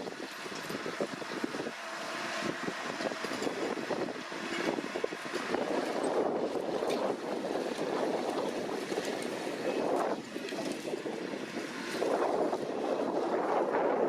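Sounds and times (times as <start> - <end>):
tractor and hay machine rushing: 0.0 - 14.0.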